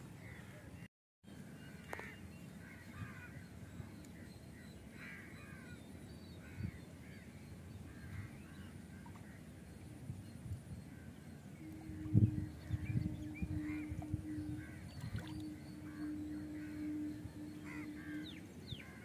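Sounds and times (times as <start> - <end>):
steady low hum: 1.4 - 19.0
birds calling: 1.7 - 19.0.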